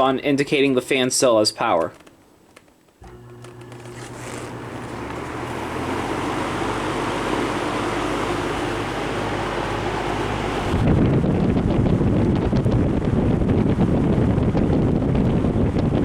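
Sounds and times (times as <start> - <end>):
fan motor hum: 2.9 - 16.0
fan blades rushing air: 3.0 - 16.0.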